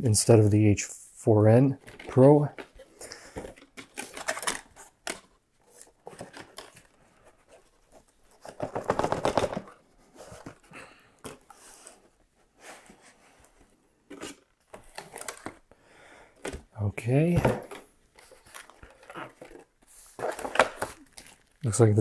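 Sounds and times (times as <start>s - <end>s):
cardboard packaging rustling: 1.8s - 15.7s, 17.2s - 21.9s.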